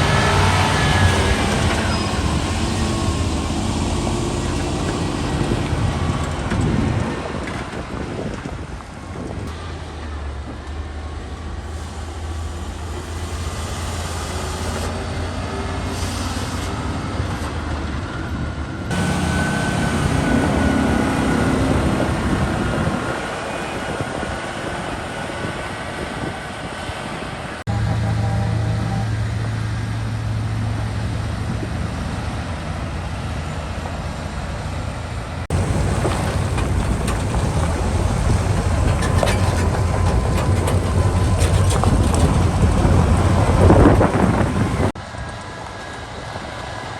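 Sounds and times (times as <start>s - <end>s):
diesel machinery running: 0.0s - 46.9s.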